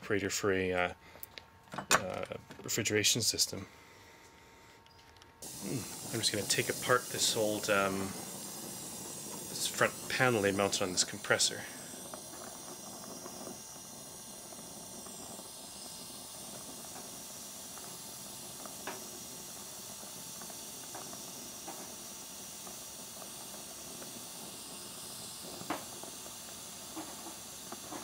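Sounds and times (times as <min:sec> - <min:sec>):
torch flame hissing: 0:05.4 - 0:28.0.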